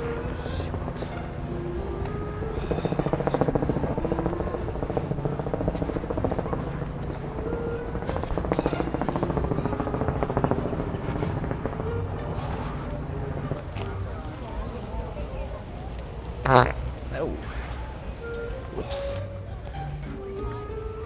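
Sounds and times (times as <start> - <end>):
fluttering fart sounds: 0.0 - 14.9, 15.7 - 19.1.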